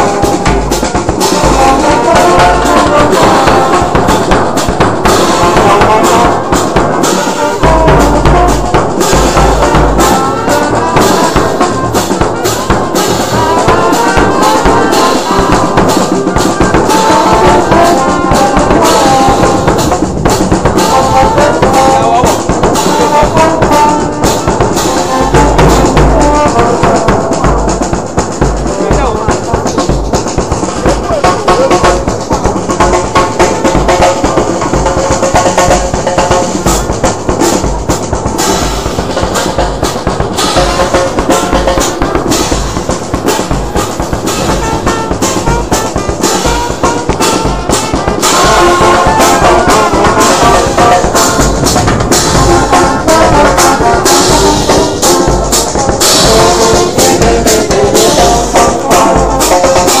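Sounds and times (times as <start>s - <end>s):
bass drum and hand drums: 0.0s - 60.0s
trumpets and trombone: 0.0s - 60.0s.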